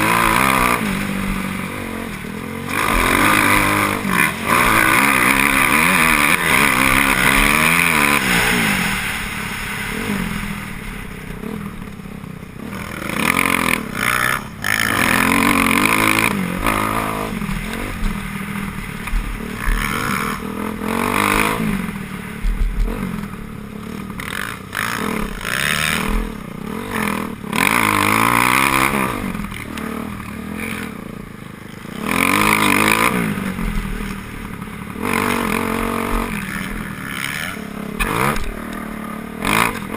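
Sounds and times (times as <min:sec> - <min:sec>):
motocross bikes racing past: 0:00.0 - 0:39.9.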